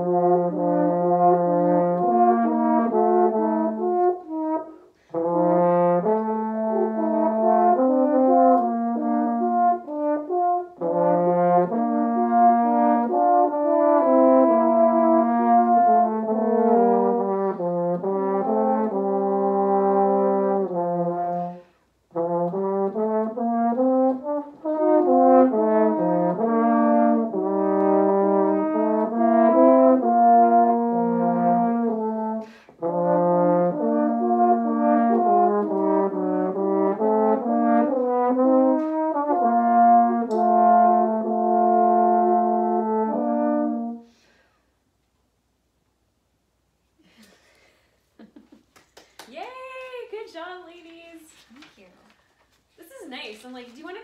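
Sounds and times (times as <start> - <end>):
french horn duet: 0.0 - 44.3.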